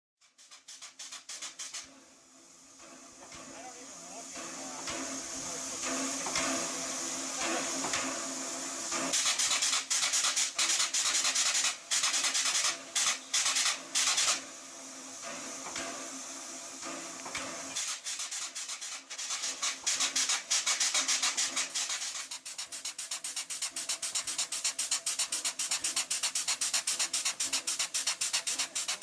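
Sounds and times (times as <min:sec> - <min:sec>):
bursts of escaping steam: 0:00.2 - 0:29.0
fast pulsing steam beats: 0:00.2 - 0:29.0
steam locomotive hissing: 0:00.2 - 0:29.0.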